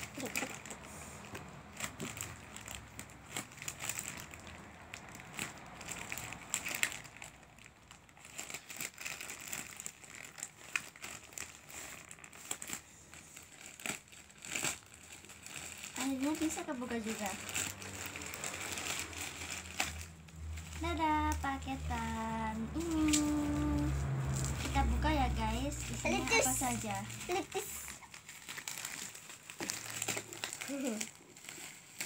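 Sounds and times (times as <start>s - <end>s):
plastic mailer crinkling: 0.0s - 32.0s.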